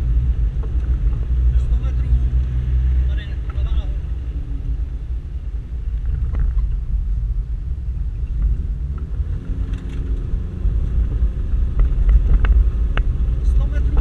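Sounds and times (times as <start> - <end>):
car engine low rumble: 0.0 - 14.0.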